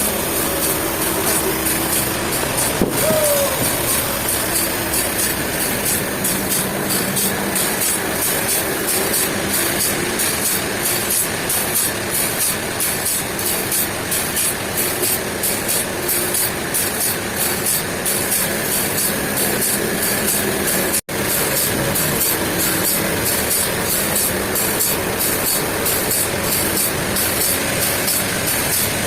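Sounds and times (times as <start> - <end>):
heavy engine running: 0.0 - 29.0
high-pitched rattle: 0.0 - 29.0.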